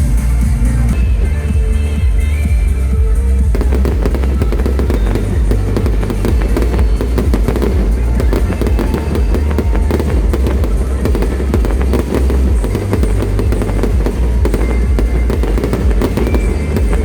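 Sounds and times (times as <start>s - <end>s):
loud music with heavy bass: 0.0s - 17.0s
fireworks crackling: 0.1s - 17.0s.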